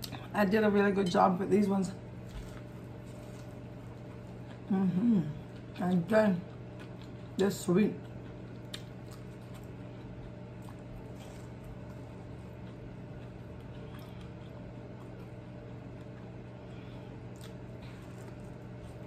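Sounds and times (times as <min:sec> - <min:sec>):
steady low hum: 0:00.0 - 0:19.0
person chewing: 0:02.2 - 0:19.0.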